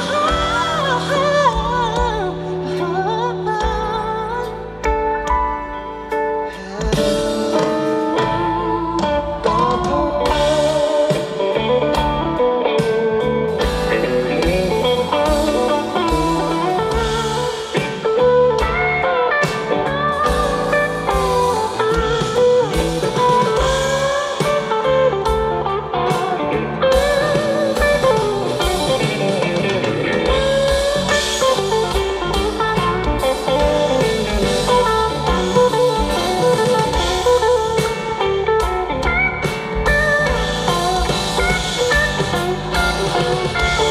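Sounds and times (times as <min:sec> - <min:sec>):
drum kit: 0:00.0 - 0:43.9
lead guitar: 0:00.0 - 0:43.9
live band playing: 0:00.0 - 0:43.9.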